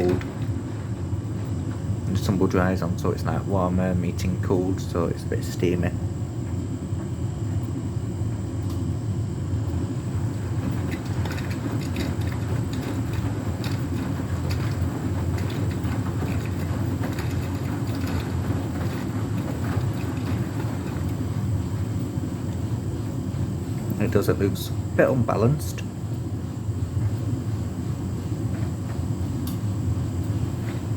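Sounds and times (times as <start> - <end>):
washing machine spinning: 0.0 - 30.9.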